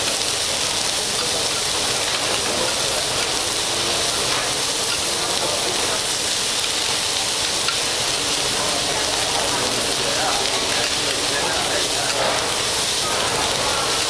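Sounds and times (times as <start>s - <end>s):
rice sizzling on griddle: 0.0s - 14.0s.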